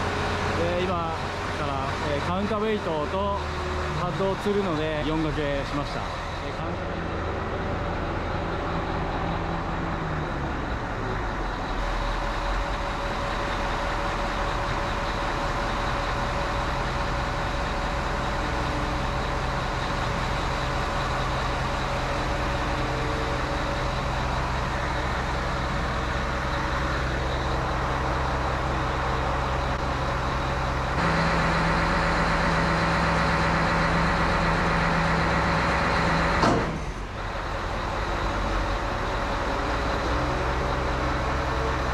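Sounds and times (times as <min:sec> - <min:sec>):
crane diesel engine running: 0:00.0 - 0:41.9.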